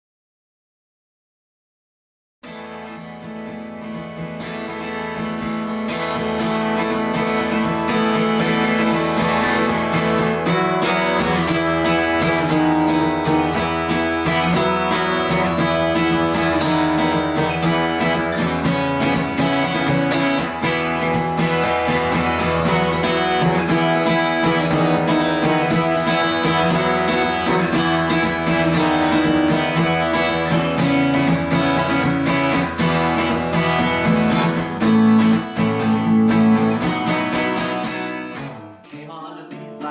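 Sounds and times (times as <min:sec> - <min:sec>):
acoustic guitar strumming: 0:02.4 - 0:39.9.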